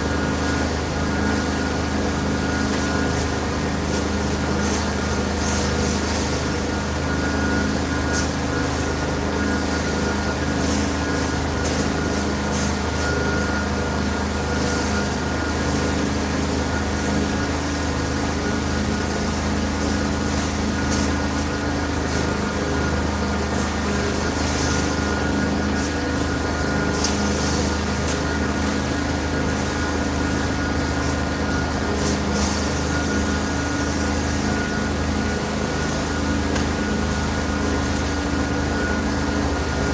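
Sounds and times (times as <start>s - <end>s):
carpet cleaning machine droning: 0.0s - 39.9s.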